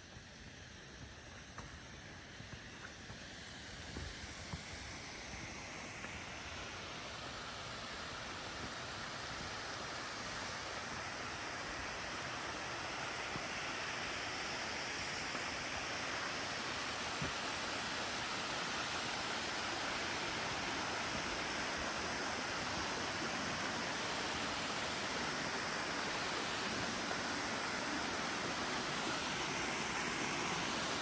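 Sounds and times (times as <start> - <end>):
water rushing from waterfall: 0.8 - 31.0.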